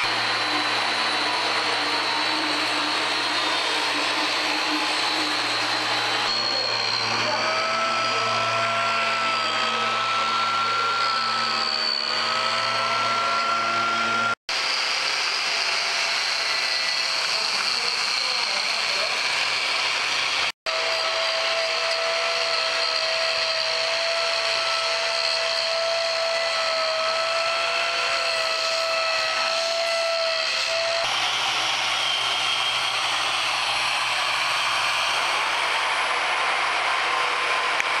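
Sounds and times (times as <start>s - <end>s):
electric carving tools whining: 0.0s - 38.0s.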